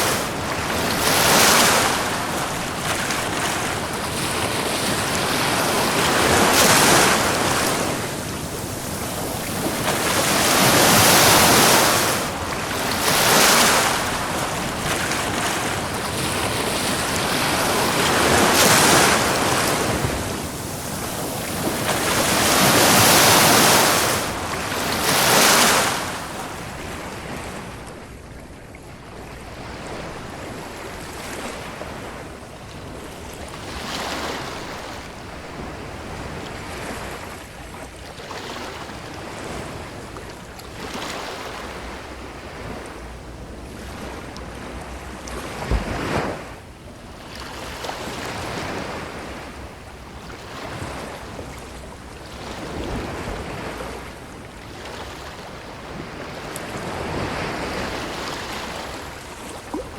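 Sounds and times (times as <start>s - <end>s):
ocean surf washing on beach: 0.0s - 28.6s, 29.2s - 59.9s.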